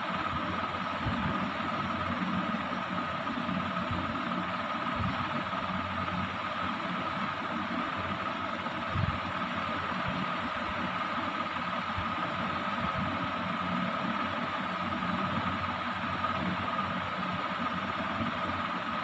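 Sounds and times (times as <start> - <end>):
ceiling fan whirring: 0.0 - 19.0
low mains hum: 0.0 - 19.0.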